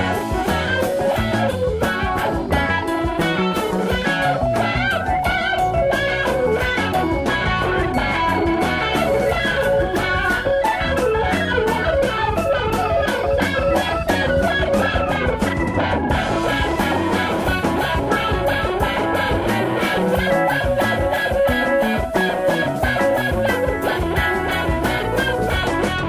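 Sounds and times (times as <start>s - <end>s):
electric guitar playing: 0.0s - 26.0s
steady drum beat: 0.0s - 26.0s.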